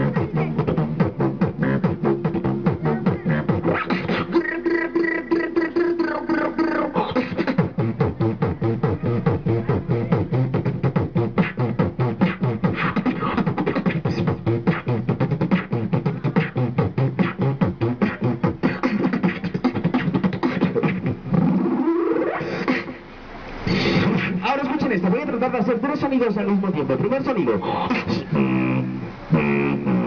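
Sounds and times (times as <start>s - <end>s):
man beatboxing: 0.0s - 23.0s, 23.6s - 30.0s.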